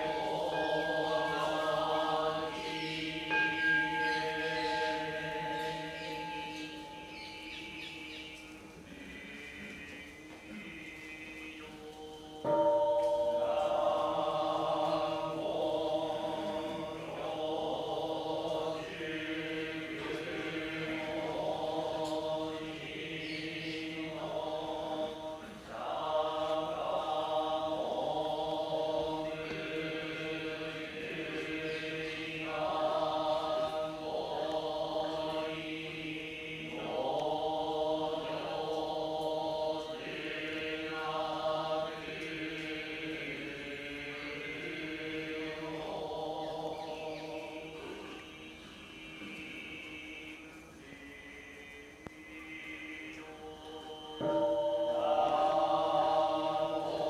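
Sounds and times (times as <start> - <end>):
monks chanting together: 0.0 - 57.0.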